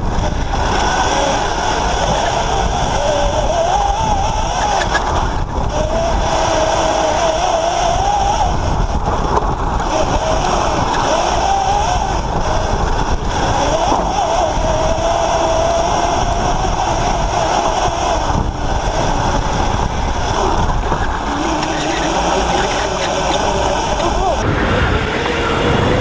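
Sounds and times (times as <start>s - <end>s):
electric motor whine: 0.0s - 26.0s
road and wind rumble: 0.0s - 26.0s.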